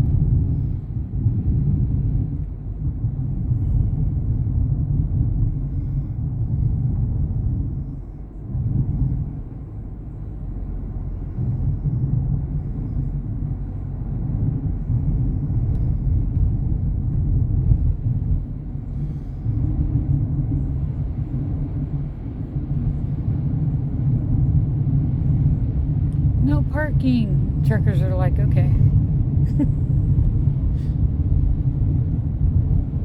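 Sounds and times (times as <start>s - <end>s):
road noise: 0.0s - 33.0s
vehicle engine rumble: 0.0s - 33.0s.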